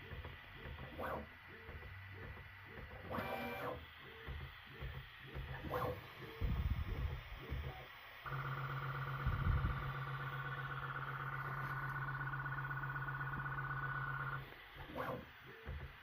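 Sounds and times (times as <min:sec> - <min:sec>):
printer electric hum and buzz: 0:00.0 - 0:16.0.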